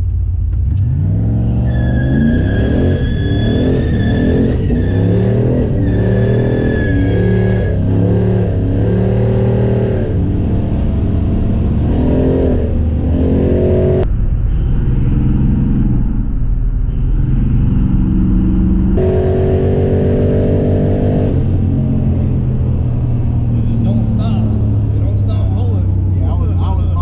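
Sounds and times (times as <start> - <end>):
car engine accelerating hard: 0.5 - 14.1, 16.9 - 27.0.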